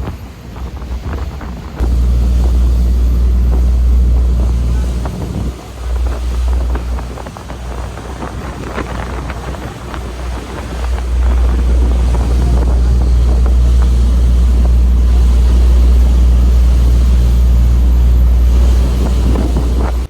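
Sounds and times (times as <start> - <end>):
wind buffeting microphone: 0.0 - 20.0
vehicle rumble: 1.5 - 20.0.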